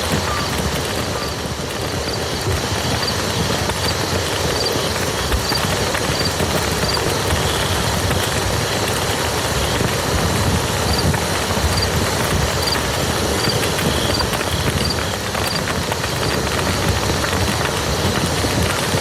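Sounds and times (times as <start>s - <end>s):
rain falling on a field: 0.0s - 19.0s.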